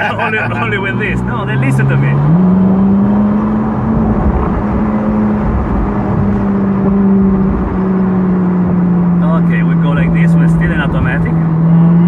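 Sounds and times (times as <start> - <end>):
car engine cruising: 0.0 - 12.0
wind and road noise: 0.0 - 12.0.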